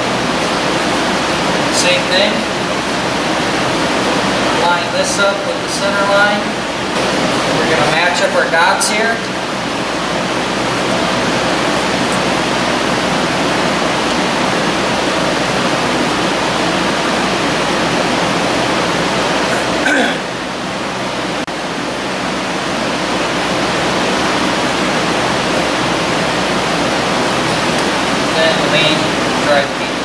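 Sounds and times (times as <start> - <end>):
fan rushing noise: 0.0 - 30.0.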